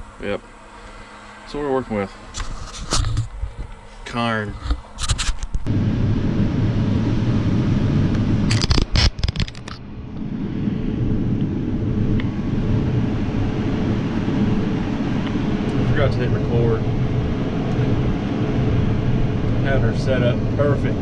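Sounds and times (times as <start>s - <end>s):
diesel machinery droning: 0.0s - 21.0s.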